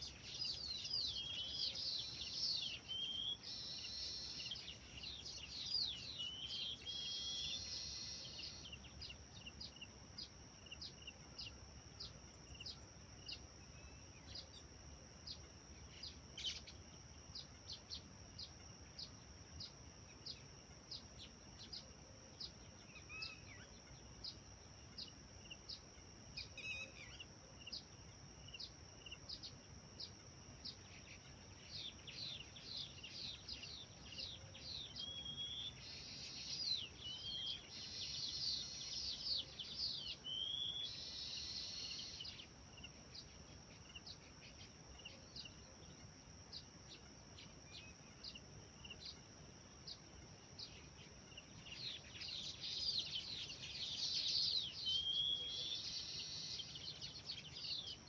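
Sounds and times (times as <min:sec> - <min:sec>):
birds singing and trilling: 0:00.0 - 0:58.0.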